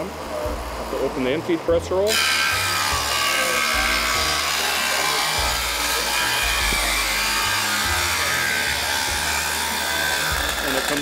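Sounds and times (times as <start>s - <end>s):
saws cutting board: 2.1s - 11.0s.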